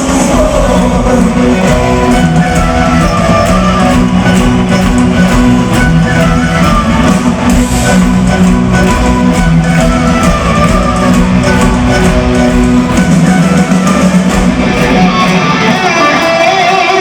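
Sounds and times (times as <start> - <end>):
bass: 0.0 - 15.8
drums keeping a steady beat: 0.0 - 17.0
strummed electric guitars: 0.0 - 17.0.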